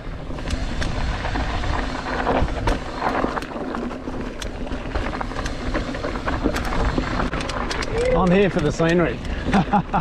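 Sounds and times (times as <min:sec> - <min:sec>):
bike rattling over bumps: 0:00.0 - 0:10.0
bike tyres rumbling over dirt: 0:00.0 - 0:10.0.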